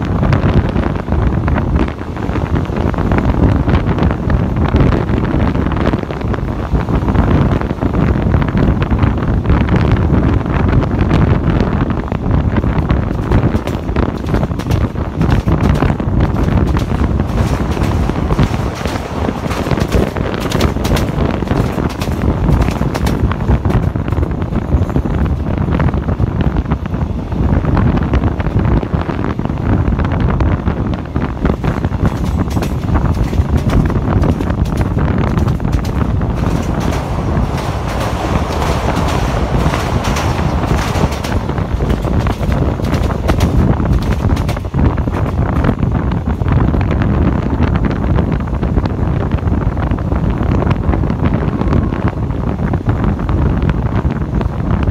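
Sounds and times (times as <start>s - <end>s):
train running rumble on track: 0.0s - 54.9s
wind buffeting microphone: 0.0s - 54.9s.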